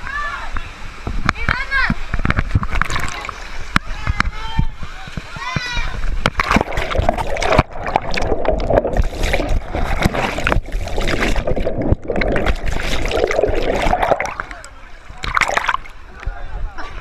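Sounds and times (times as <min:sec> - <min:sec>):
water splashing and churning: 0:01.0 - 0:16.5.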